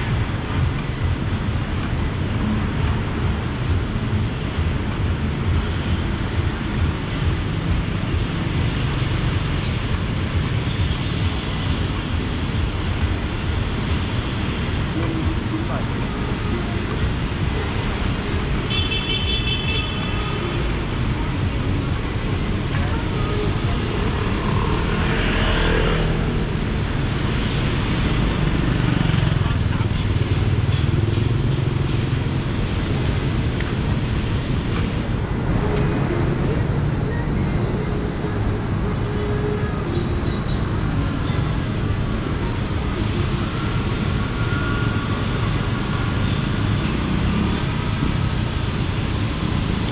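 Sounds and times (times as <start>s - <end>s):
low traffic rumble: 0.0s - 49.9s.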